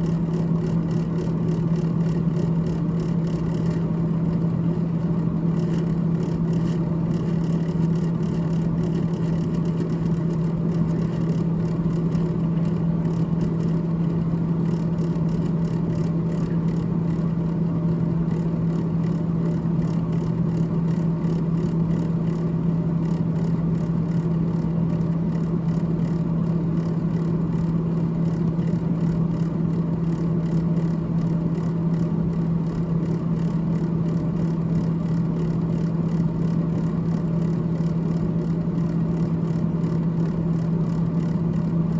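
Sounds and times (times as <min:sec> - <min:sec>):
faint airy whir: 0:00.0 - 0:41.9
freezer fan humming: 0:00.0 - 0:41.9.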